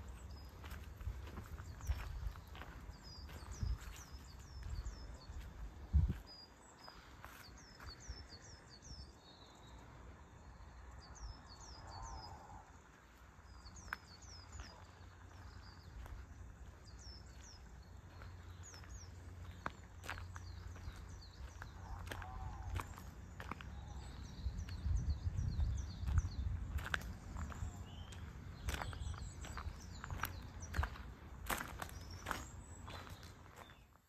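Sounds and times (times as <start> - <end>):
small bird chirping: 0.0 - 34.0.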